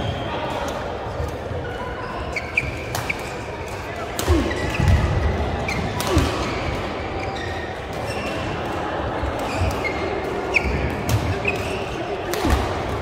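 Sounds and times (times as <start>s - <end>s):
sneakers squeaking: 0.0s - 8.7s, 9.3s - 13.0s
rackets smacking shuttlecock: 2.4s - 13.0s.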